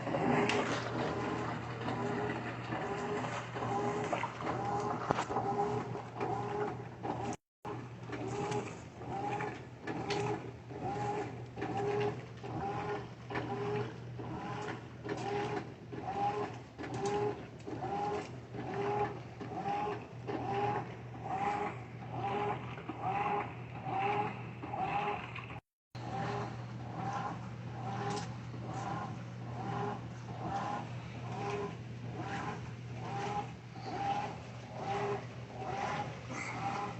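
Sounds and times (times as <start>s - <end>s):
washing machine agitating: 0.0s - 36.9s.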